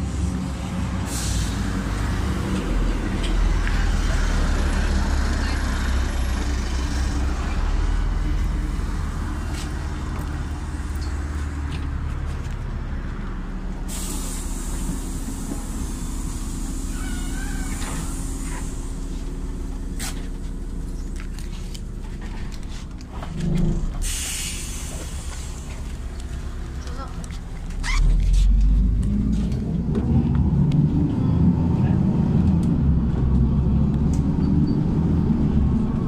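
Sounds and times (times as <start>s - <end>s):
bus engine droning: 0.0s - 36.0s
road noise: 0.0s - 36.0s.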